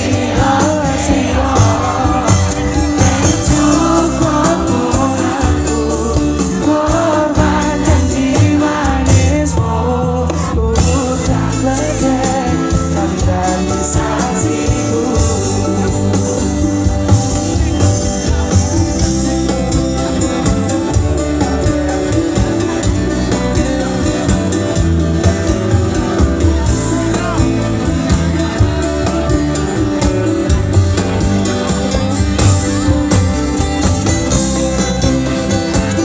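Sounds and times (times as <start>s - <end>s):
lead vocal: 0.0s - 33.7s
bass guitar: 0.0s - 36.0s
drums: 0.0s - 36.0s
electric guitars: 0.0s - 36.0s.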